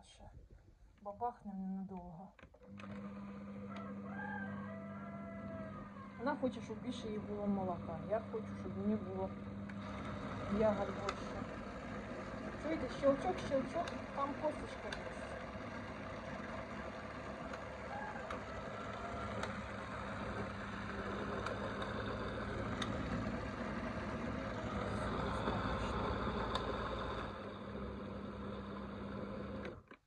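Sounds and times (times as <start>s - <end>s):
blender motor running: 2.6s - 30.0s.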